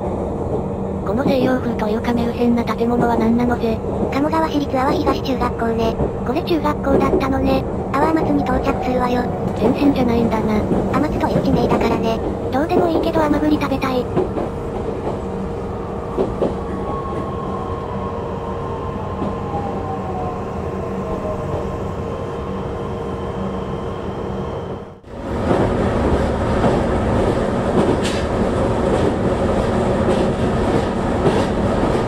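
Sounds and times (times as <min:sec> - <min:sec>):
electric train rumble: 0:00.0 - 0:32.0
train running noise on rails: 0:00.0 - 0:32.0.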